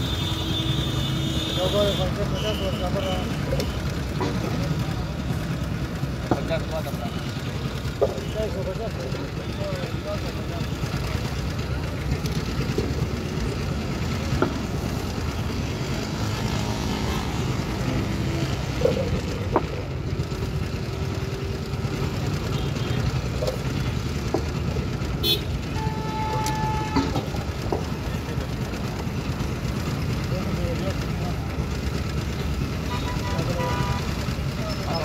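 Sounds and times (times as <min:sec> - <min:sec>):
street engine rumble: 0:00.0 - 0:35.0.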